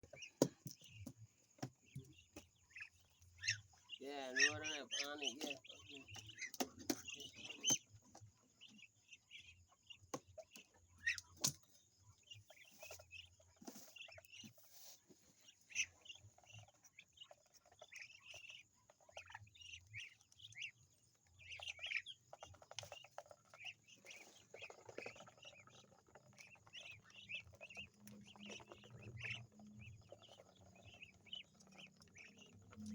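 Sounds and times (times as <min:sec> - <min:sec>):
poultry chirping and clucking: 0:00.0 - 0:32.9.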